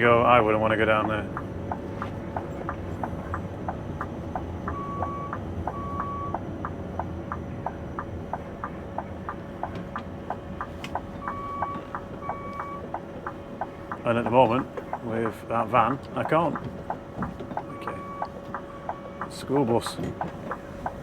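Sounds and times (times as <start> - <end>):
truck engine rumbling: 0.0 - 21.0
turn signal ticking: 0.0 - 21.0.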